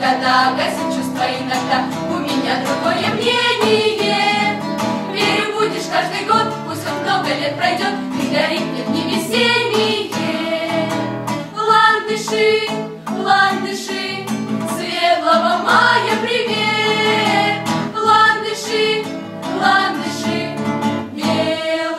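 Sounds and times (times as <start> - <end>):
strummed acoustic guitar: 0.0 - 21.8
women singing together: 0.0 - 21.9.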